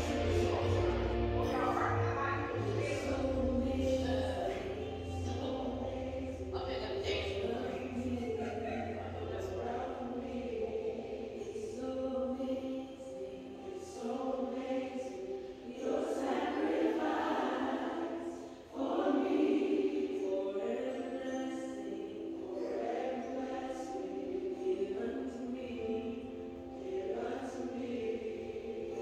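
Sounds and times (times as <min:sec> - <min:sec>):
choir singing sustained chords: 0:00.0 - 0:29.0.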